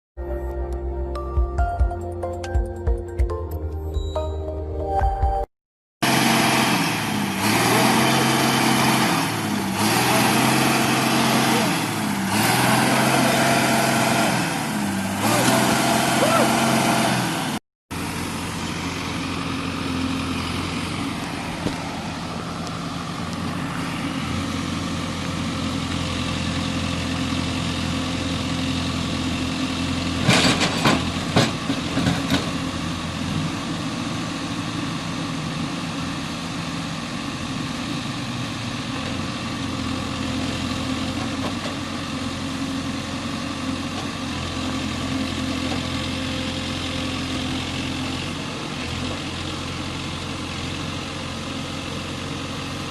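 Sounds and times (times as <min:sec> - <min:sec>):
diesel engine running at low revs: 0:06.0 - 0:52.9.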